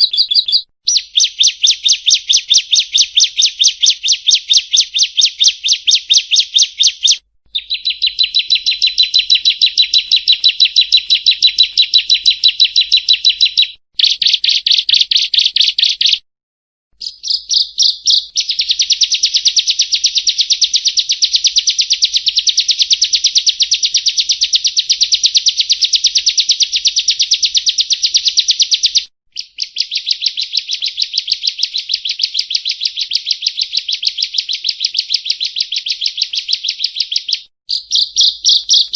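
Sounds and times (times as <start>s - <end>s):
bird rapid high chirps: 0.0s - 16.2s, 17.0s - 38.9s.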